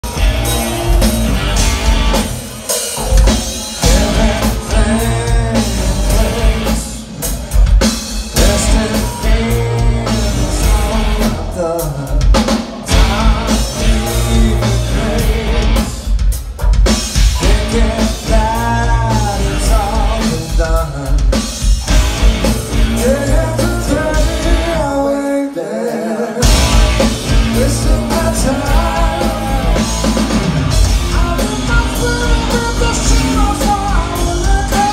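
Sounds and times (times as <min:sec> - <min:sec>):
man singing lead: 0:00.0 - 0:16.4, 0:17.2 - 0:34.9
live rock band playing: 0:00.0 - 0:34.9.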